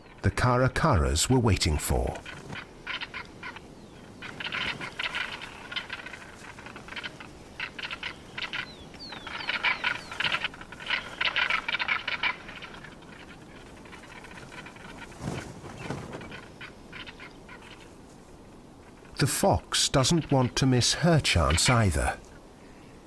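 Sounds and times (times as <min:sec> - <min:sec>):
caracaras rattling calls: 0:00.0 - 0:22.4.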